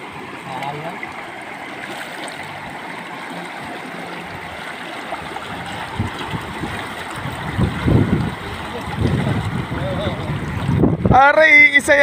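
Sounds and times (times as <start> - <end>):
river flowing over rapids: 0.0 - 10.5.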